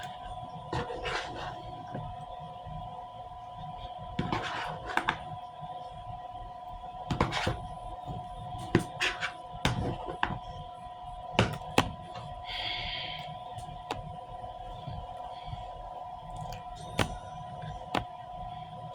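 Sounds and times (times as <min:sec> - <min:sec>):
faint hum: 0:00.0 - 0:18.9.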